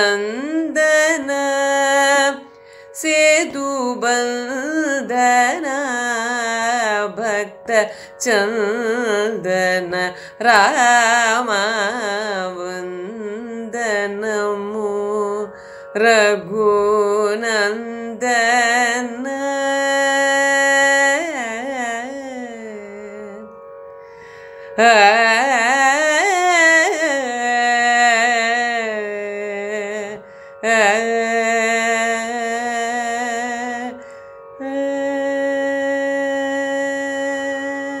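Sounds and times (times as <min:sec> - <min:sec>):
woman singing: 0:00.0 - 0:23.5, 0:24.7 - 0:34.0, 0:34.6 - 0:38.0.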